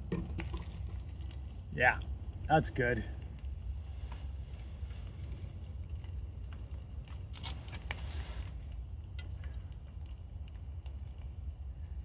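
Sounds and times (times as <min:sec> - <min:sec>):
stove burner rumble: 0:00.0 - 0:12.0.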